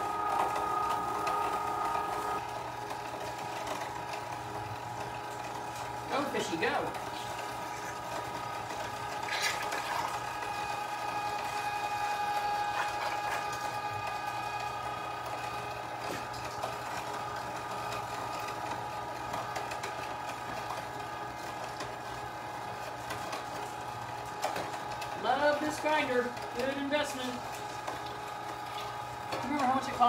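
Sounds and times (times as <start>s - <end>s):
electric meat grinder running: 0.0s - 30.0s.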